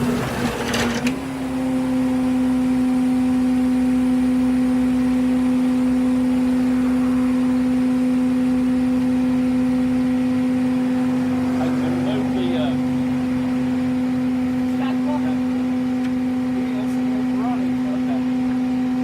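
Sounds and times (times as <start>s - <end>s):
vehicle mechanical drone: 0.0s - 19.0s.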